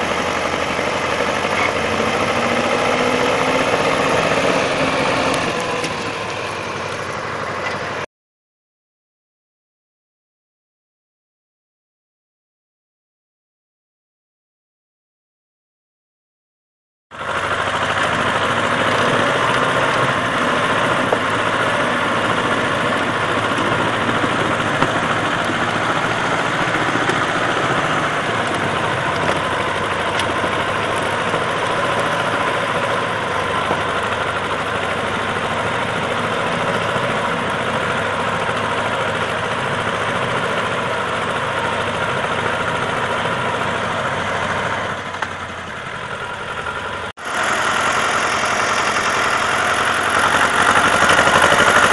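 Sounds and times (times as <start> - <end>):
tractor diesel engine running: 0.0 - 8.1, 17.1 - 51.9.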